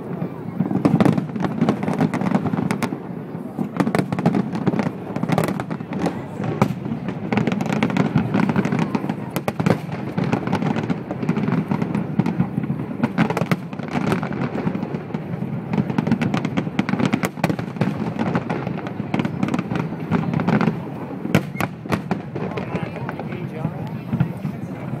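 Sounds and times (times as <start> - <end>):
fireworks booming and cracking: 0.0 - 25.0.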